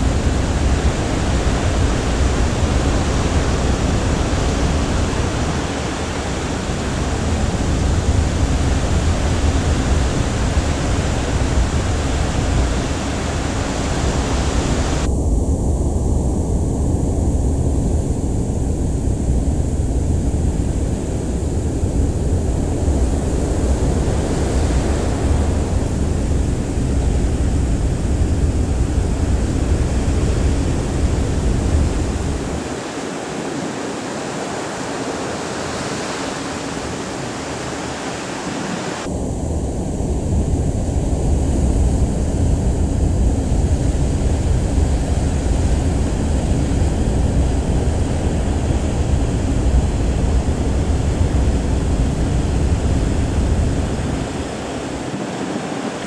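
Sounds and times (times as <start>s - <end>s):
sea water rushing: 0.0s - 15.1s, 20.0s - 39.2s, 40.3s - 56.0s
wind rumbling on microphone: 0.0s - 56.0s.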